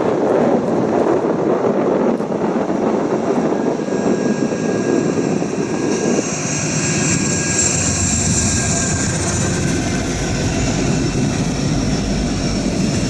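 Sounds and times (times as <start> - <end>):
freight train whine: 0.0 - 13.0
wind buffeting microphone: 0.0 - 13.0.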